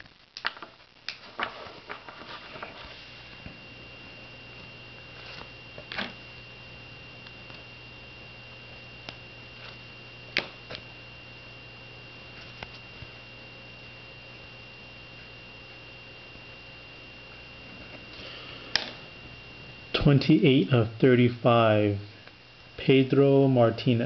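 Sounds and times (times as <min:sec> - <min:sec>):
electrical hum with high whine: 0:00.0 - 0:24.0.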